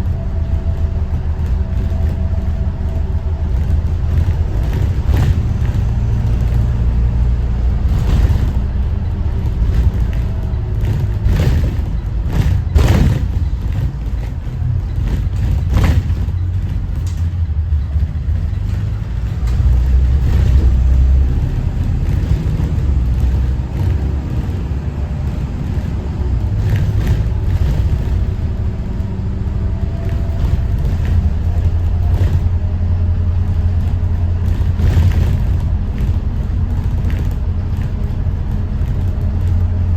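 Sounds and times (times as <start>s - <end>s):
bus diesel engine rumbling: 0.0s - 39.9s
sharp knocks and rattles: 0.0s - 39.9s.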